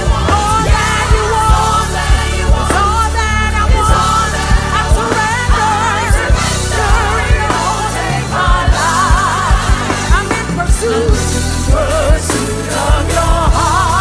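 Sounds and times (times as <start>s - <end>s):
gospel band playing: 0.0s - 14.0s
vocals singing with vibrato: 0.0s - 14.0s.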